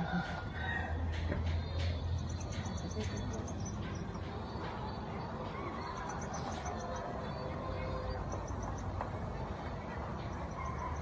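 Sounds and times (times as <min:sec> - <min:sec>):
bird chirping: 0:00.0 - 0:11.0
murmur of distant voices: 0:00.0 - 0:11.0.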